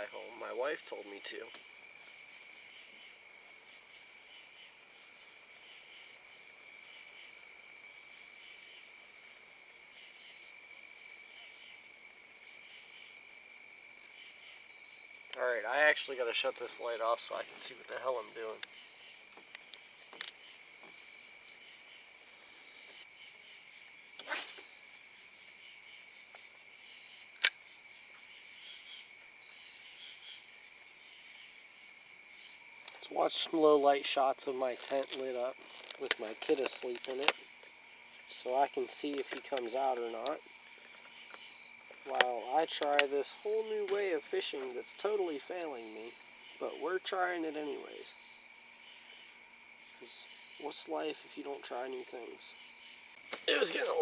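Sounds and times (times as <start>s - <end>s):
crickets and night insects chirping: 0.0s - 54.0s.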